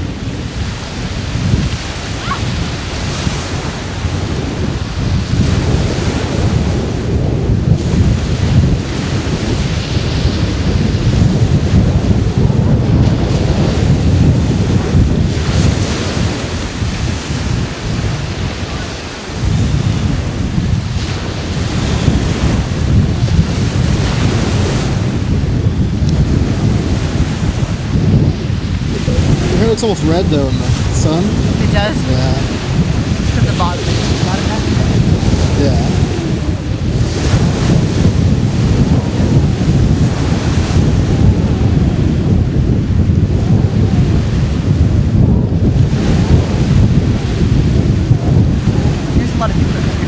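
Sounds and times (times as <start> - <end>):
small waves washing onto beach: 0.0 - 50.0
wind buffeting microphone: 0.0 - 50.0.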